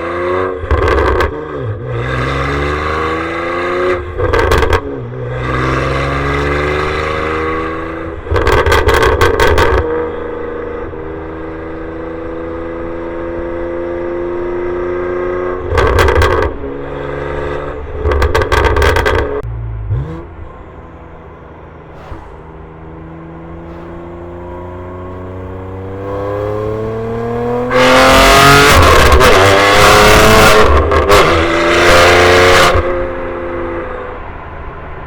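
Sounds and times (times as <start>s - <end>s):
loud exhaust blasts: 0.0s - 11.0s, 15.5s - 33.2s
car engine accelerating: 0.0s - 35.0s.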